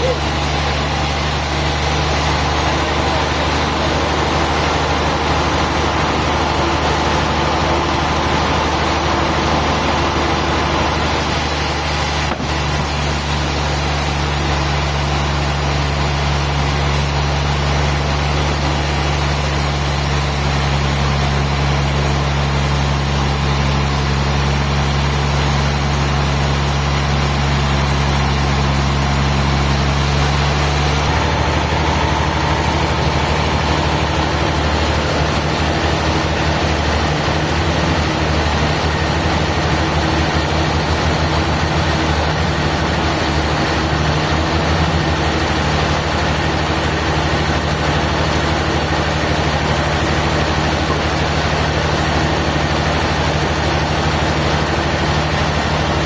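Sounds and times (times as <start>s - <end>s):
engine humming steadily: 0.0s - 56.0s.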